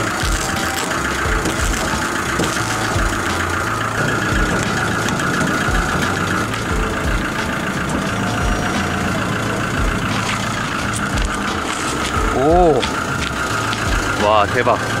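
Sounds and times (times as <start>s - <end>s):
constant hydraulic whine: 0.0s - 15.0s
truck idling mechanical hum: 0.0s - 15.0s.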